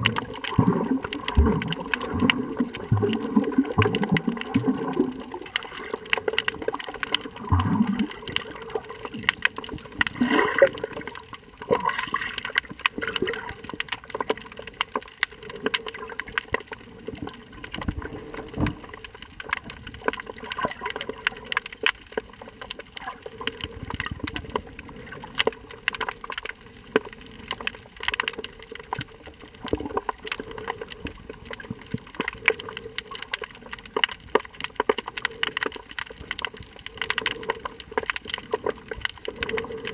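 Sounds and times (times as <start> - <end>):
crackling clicks underwater: 0.0 - 39.9
water moving against microphone: 0.0 - 39.9.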